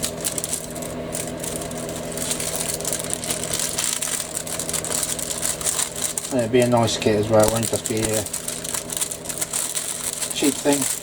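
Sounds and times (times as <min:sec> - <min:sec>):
low electrical hum: 0:00.0 - 0:11.0
plastic parts scratching and clicking: 0:00.0 - 0:11.0.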